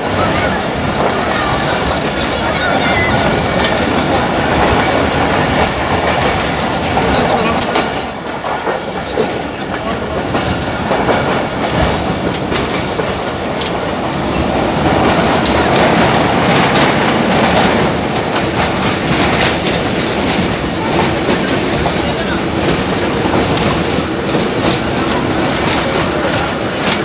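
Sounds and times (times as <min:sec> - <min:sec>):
train running at speed: 0:00.0 - 0:27.0
wheels clacking over rail joints: 0:00.0 - 0:27.0.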